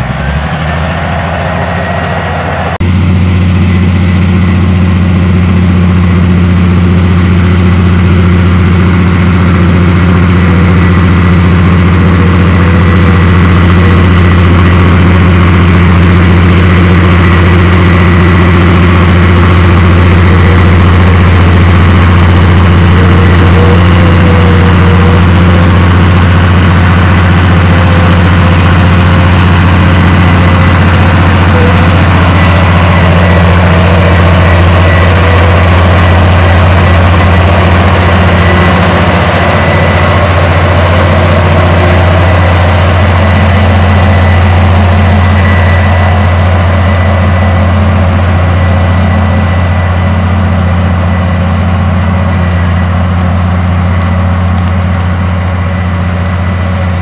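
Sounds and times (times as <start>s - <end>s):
bulldozer diesel engine hum: 0.0s - 57.0s.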